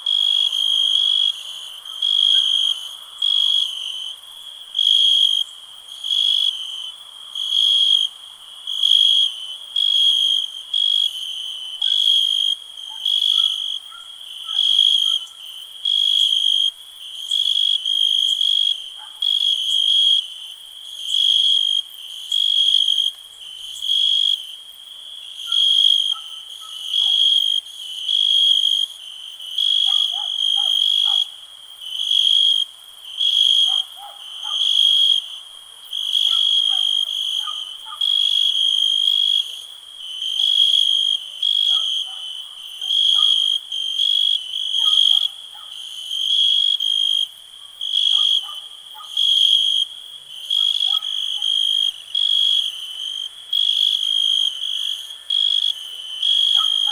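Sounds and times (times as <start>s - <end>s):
cricket chirping: 0.0s - 56.9s
faint insect or frog calls: 0.0s - 56.9s.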